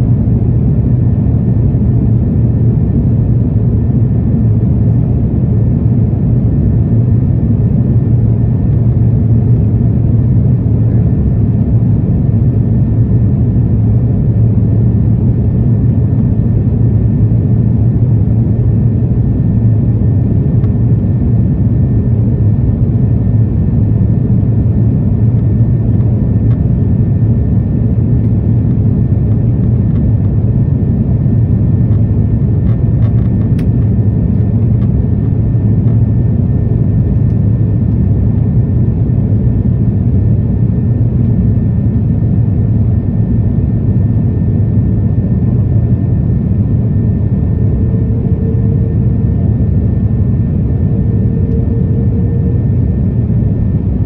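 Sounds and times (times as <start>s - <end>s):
engine and airflow rumble: 0.0s - 54.0s
faint high whine: 2.1s - 54.0s.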